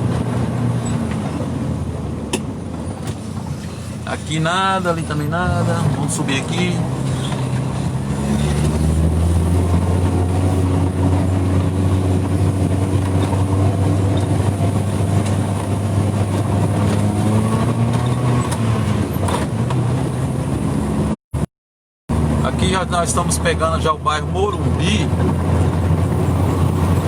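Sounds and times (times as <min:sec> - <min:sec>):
vehicle engine under load: 0:00.0 - 0:21.2, 0:22.1 - 0:27.0.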